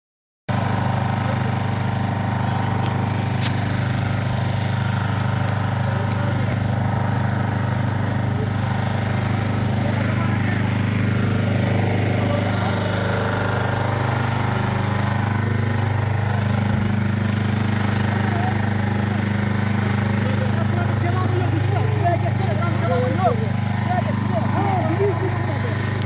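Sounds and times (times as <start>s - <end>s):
engine running steadily: 0.5s - 26.0s.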